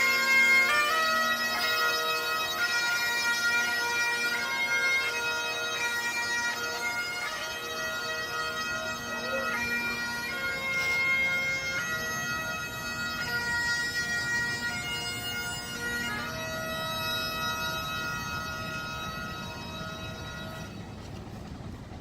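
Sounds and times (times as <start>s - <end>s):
bagpipes playing a melody: 0.0s - 21.6s.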